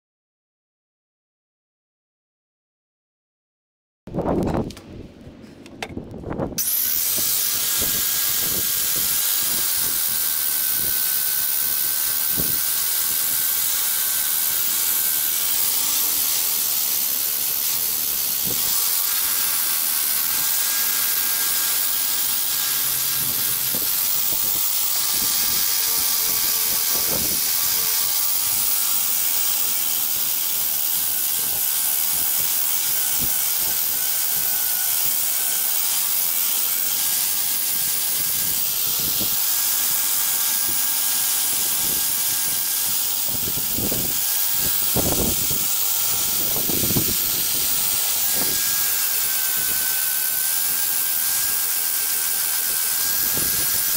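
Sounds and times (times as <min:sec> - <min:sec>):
abrasive hissing on wood: 0:06.6 - 0:53.9
grinder motor whine: 0:06.6 - 0:53.9.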